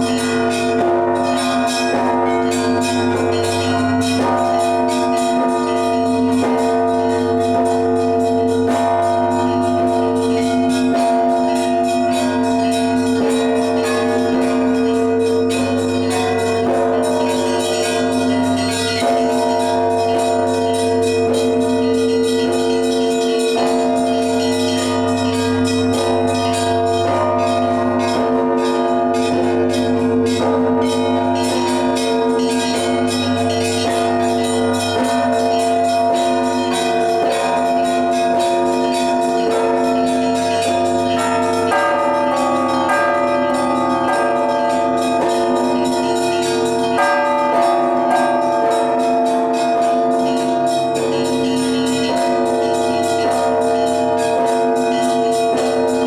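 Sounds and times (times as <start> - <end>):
large bells humming: 0.0 - 56.0
small church bells ringing fast: 0.0 - 56.0.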